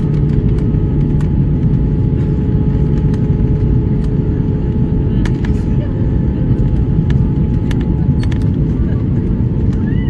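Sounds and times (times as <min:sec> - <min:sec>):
engine and airflow rumble: 0:00.0 - 0:10.0
mid-pitched hum: 0:00.0 - 0:10.0.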